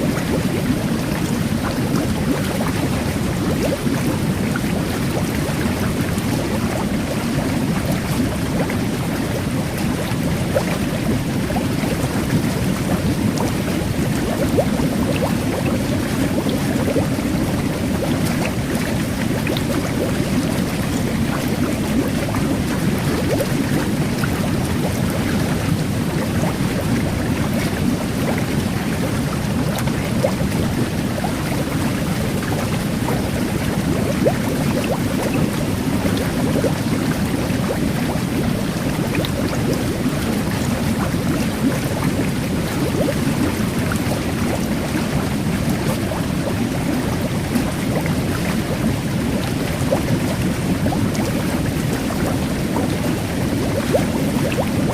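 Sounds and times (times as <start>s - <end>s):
fizzing bubbles crackle: 0.0s - 54.9s
jet bath water churning: 0.0s - 54.9s.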